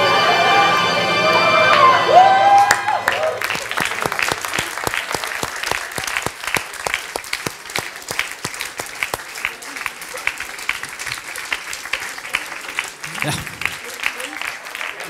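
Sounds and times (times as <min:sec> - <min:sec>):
audience applauding: 0:00.6 - 0:15.0.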